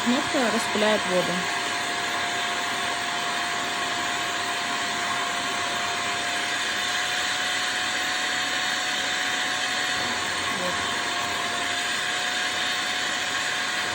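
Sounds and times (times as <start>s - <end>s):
vacuum cleaner running: 0.0s - 13.9s.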